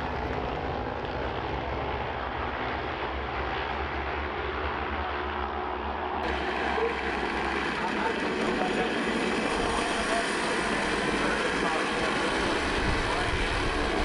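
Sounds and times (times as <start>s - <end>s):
racing motorcycle engines: 0.0s - 14.0s.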